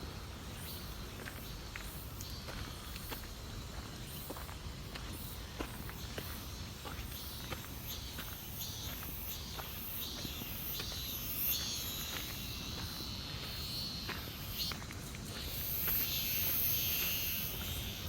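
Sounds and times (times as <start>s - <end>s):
insects chirping and buzzing: 0.0s - 18.0s
footsteps on trail: 0.6s - 18.0s.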